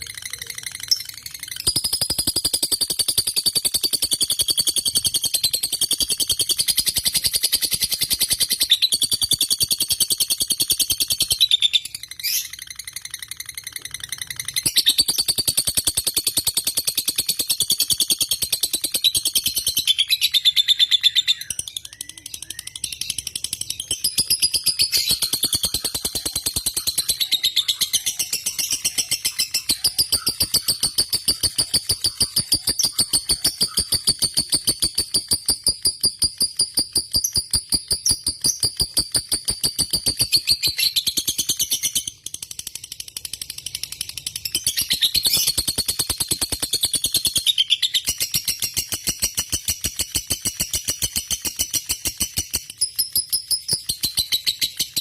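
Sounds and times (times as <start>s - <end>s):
lovebird chattering trill: 0.0s - 42.2s, 44.4s - 55.0s.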